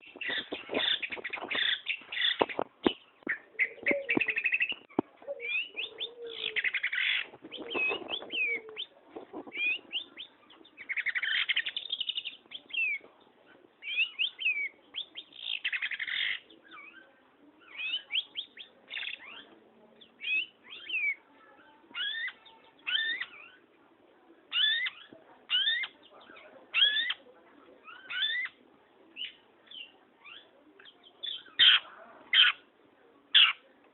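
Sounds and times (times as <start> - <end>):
bird singing chattering phrases: 0.0 - 13.0, 13.8 - 23.7, 24.5 - 32.7, 33.3 - 33.7.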